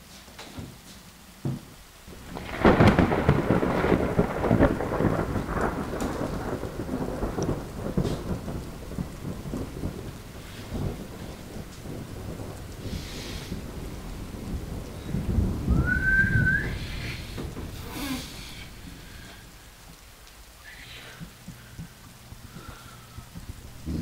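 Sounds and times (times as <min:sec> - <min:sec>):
rain patter: 0:00.0 - 0:24.0
thunder rumbling: 0:01.8 - 0:24.0.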